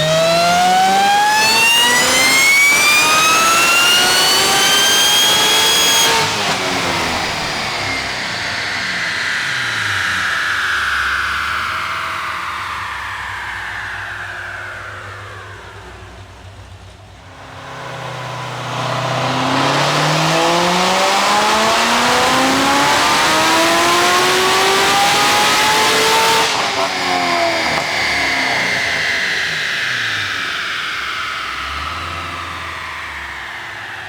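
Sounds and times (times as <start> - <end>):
car engine revving at full throttle: 0.0 - 34.0
dyno rollers winding down: 0.0 - 34.0
falling whine: 0.0 - 34.0.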